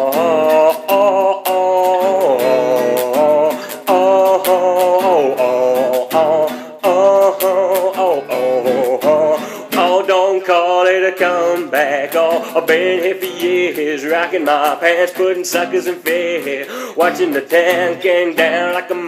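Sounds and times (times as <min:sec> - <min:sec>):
acoustic guitar strummed percussively: 0:00.0 - 0:19.0.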